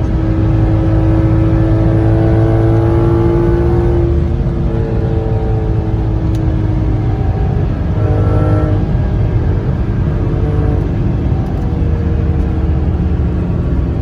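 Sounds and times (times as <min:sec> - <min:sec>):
loud car engine under load: 0:00.0 - 0:14.0.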